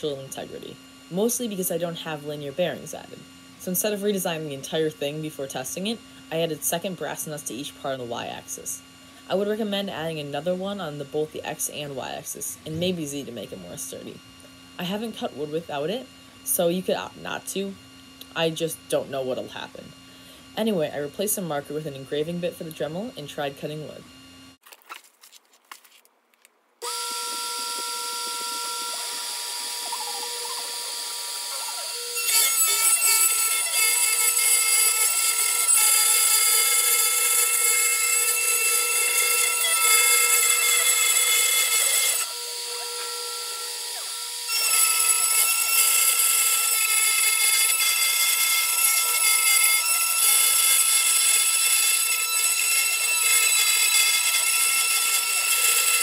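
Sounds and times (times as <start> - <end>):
rotary tool motor whine: 0.0 - 24.6, 26.8 - 56.0.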